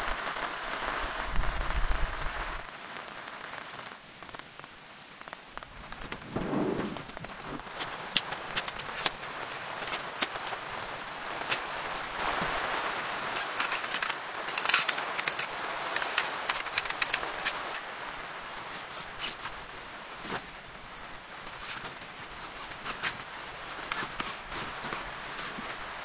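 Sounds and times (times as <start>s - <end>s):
heavy rain on a tent: 0.0s - 26.0s.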